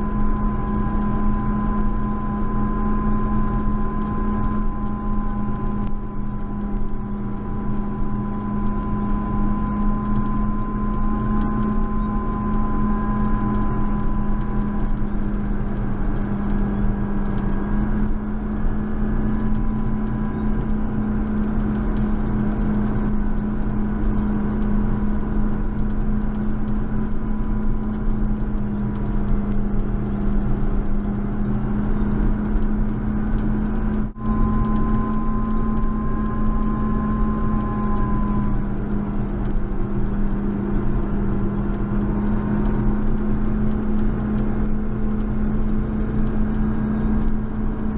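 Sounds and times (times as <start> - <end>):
high whine: 0.0 - 47.9
tractor diesel engine running: 0.0 - 47.9.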